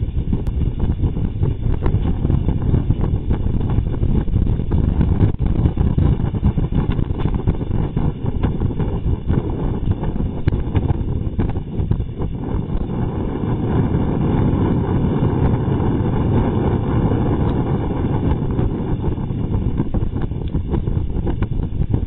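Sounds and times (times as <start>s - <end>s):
powered parachute engine: 0.0s - 22.0s
wind buffeting microphone: 0.0s - 22.0s.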